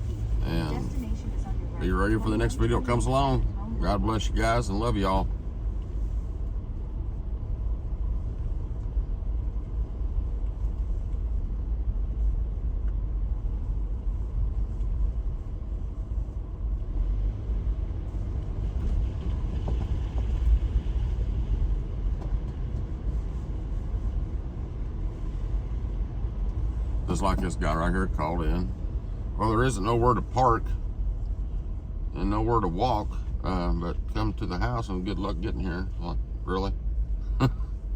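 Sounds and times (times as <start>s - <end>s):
car interior driving rumble: 0.0s - 37.9s.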